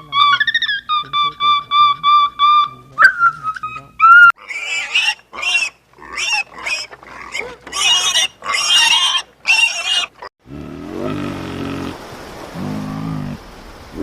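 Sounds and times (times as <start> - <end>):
pig squealing: 0.0 - 11.9.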